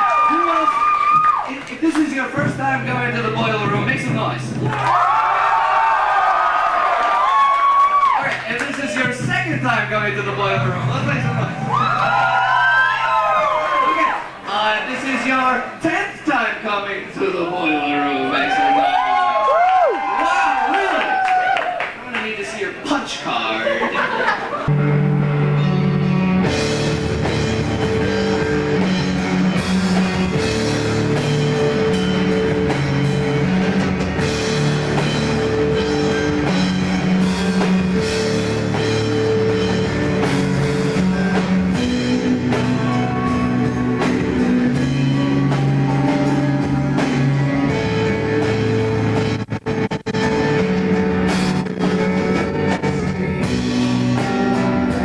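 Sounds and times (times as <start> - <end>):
rock music: 0.0 - 22.0, 24.1 - 55.0.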